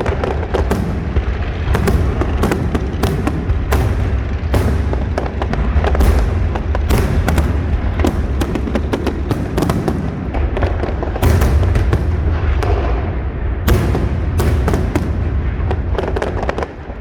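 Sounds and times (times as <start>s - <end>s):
continuous low rumble: 0.0s - 17.0s
fireworks bursts and bangs: 0.0s - 17.0s.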